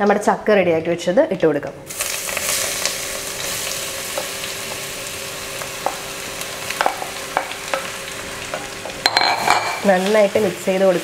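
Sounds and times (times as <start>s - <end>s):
food sizzling in hot oil: 1.9s - 11.0s.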